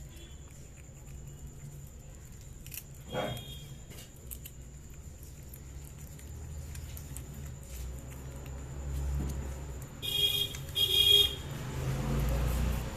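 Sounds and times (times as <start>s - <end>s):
cat chewing: 0.0s - 10.8s.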